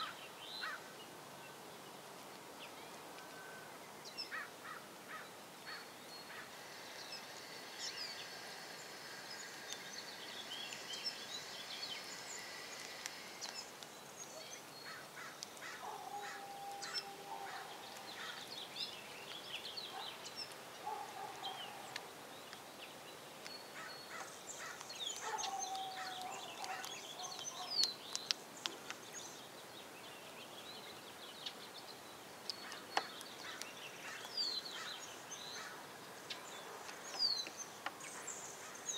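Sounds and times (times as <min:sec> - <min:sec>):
low steady bird calls: 0:00.0 - 0:38.9
small birds chirping: 0:00.0 - 0:38.9.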